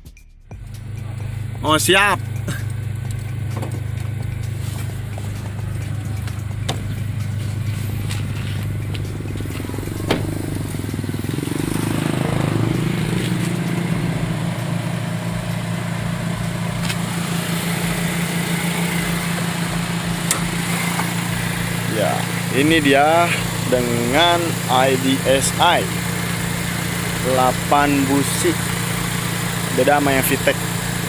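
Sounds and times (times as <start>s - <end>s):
car engine idling: 0.5s - 31.0s.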